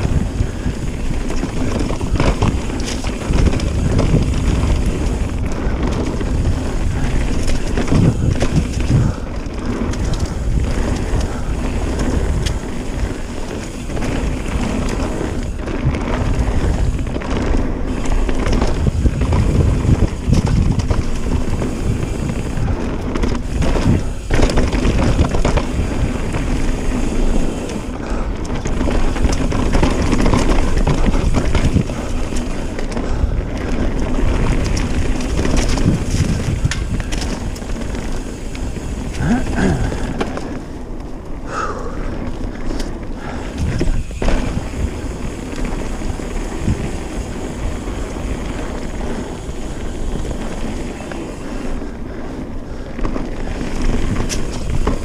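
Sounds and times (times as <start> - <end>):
bike knocking and rattling: 0.0 - 55.0
bike tyres rumbling over dirt: 0.0 - 55.0
wind buffeting microphone: 0.0 - 55.0.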